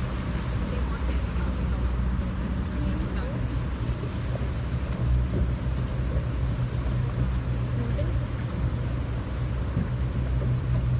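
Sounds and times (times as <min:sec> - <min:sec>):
boat engine humming: 0:00.0 - 0:10.9
water noise: 0:00.0 - 0:10.9
wind: 0:00.0 - 0:10.9.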